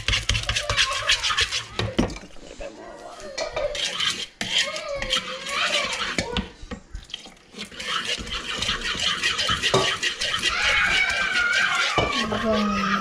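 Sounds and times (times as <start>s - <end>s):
wooden spoon scraping a bowl: 0.0s - 6.6s, 7.5s - 13.0s.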